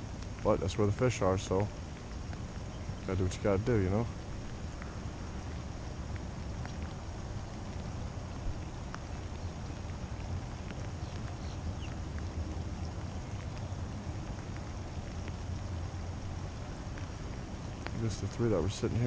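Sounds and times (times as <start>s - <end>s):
faint ticks: 0.0s - 19.0s.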